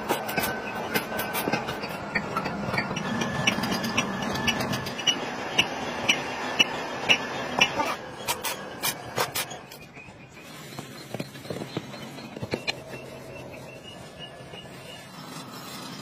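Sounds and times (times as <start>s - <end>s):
steady noisy background: 0.0s - 16.0s.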